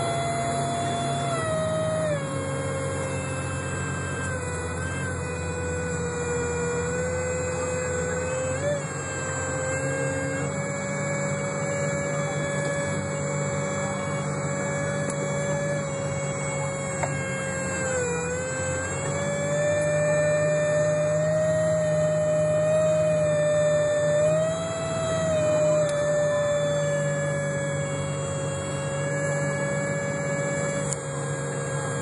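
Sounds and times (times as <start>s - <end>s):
bus high-pitched whine: 0.0s - 32.0s
low bus running noise: 0.0s - 32.0s.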